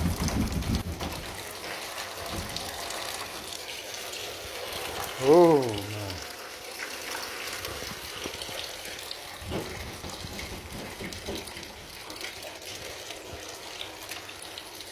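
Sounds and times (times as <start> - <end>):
small water drips: 0.0 - 14.9
water running from a leak: 0.0 - 14.9.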